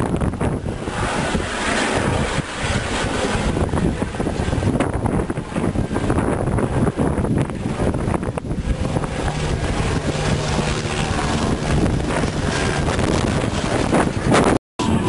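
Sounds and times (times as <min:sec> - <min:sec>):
helicopter engine and rotor: 0:00.0 - 0:15.0
wind buffeting on microphone: 0:00.0 - 0:15.0.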